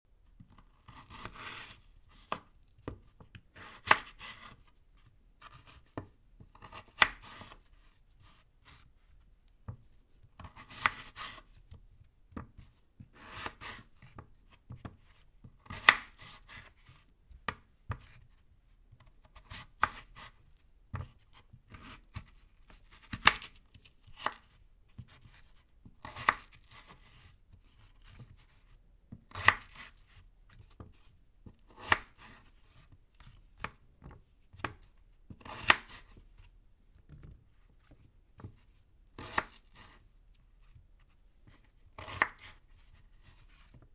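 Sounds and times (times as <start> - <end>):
knife slicing through potato: 0.4 - 9.0, 10.4 - 36.5, 37.8 - 43.8.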